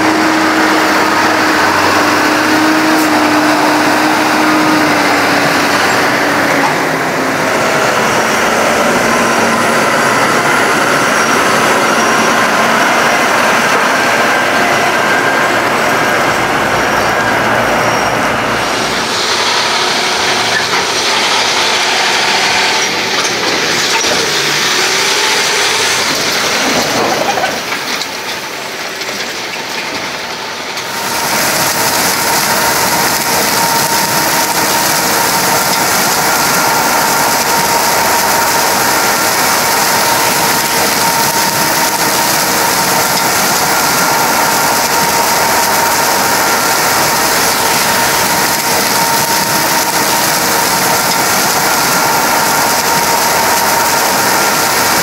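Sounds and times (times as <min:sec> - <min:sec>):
heavy farm machinery engines: 0:00.0 - 0:55.0.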